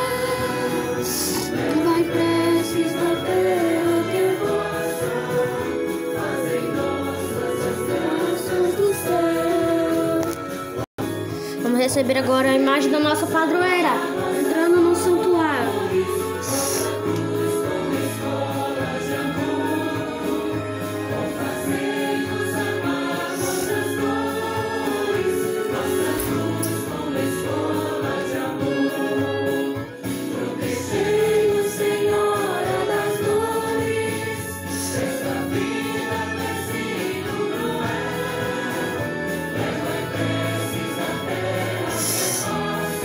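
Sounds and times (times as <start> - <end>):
choir singing a hymn: 0.0 - 10.8, 13.1 - 43.0
musical accompaniment: 0.0 - 43.0.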